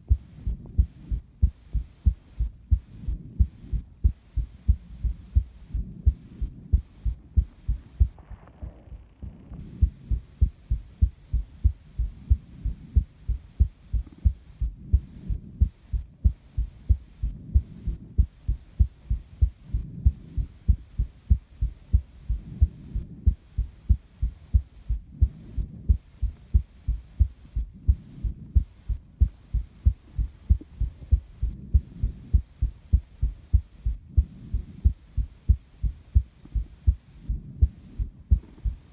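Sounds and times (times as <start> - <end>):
heartbeat thumps: 0.0 - 38.9
soft breathing: 0.0 - 38.9.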